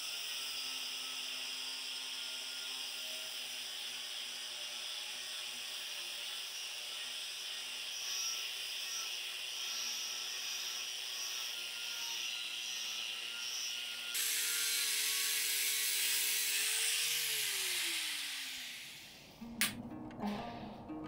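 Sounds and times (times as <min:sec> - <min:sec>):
angle grinder grinding metal: 0:00.0 - 0:19.3.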